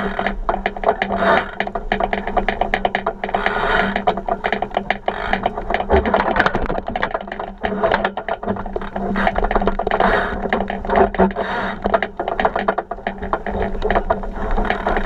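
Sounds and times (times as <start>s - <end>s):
boat hull rattling and knocking: 0.0s - 15.0s.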